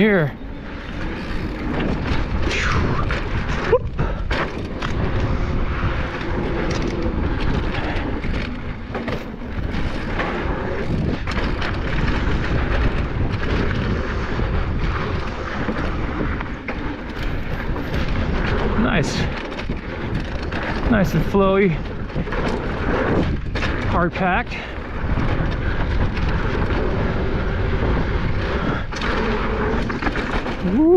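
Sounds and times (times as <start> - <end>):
bike rattling over bumps: 0.0 - 30.9
bike tyre noise: 0.0 - 30.9
wind on the microphone: 0.0 - 30.9.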